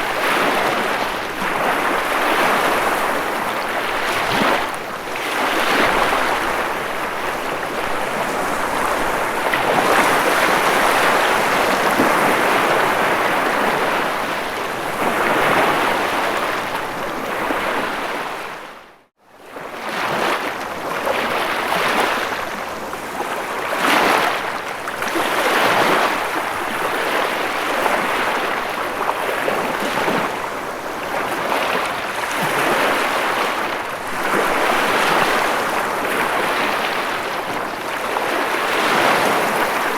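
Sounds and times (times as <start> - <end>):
ocean waves washing on shore: 0.0 - 39.9.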